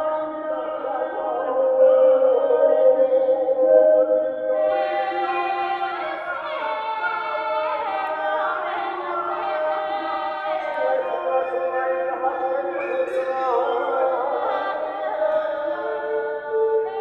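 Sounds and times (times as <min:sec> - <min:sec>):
overlapping recorded singing voices: 0:00.0 - 0:17.0.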